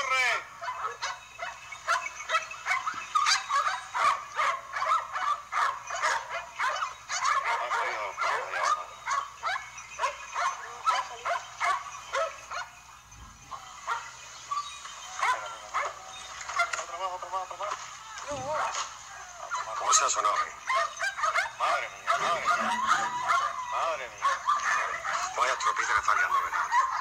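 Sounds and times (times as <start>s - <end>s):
dogs barking excitedly: 0.0s - 27.0s.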